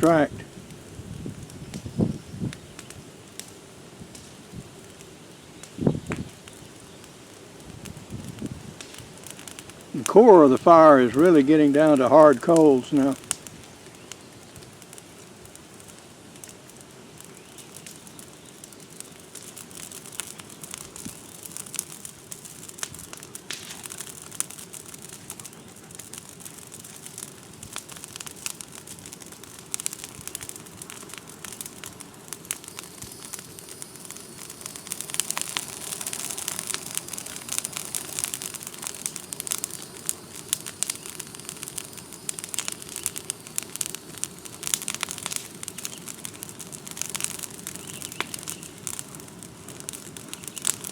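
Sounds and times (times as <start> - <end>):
fire crackling and popping: 0.0 - 50.9
fire hissing: 0.0 - 50.9.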